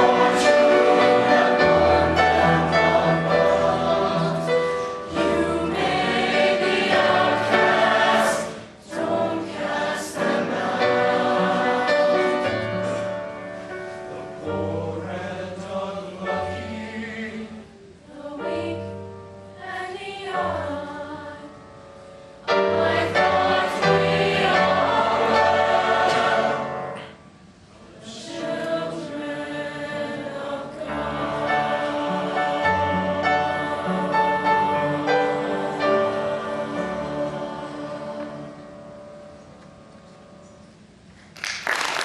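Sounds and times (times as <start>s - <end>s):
choir singing slow song: 0.0s - 40.7s.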